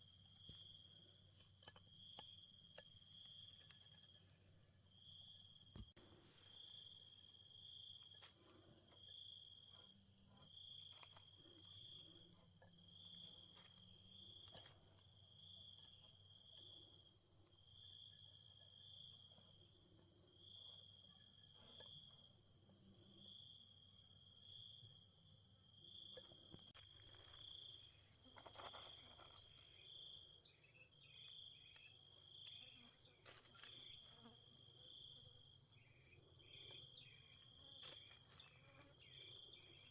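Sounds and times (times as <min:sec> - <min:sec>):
high insect chirp: 0:00.0 - 0:39.9
insects trilling: 0:00.0 - 0:39.9.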